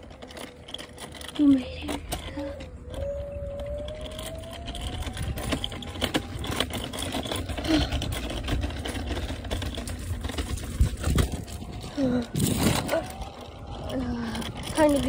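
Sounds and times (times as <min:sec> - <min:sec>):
dirt bike motor whining: 0:00.0 - 0:15.0
low rumble: 0:00.0 - 0:15.0
wheels knocking over pavement: 0:00.0 - 0:15.0.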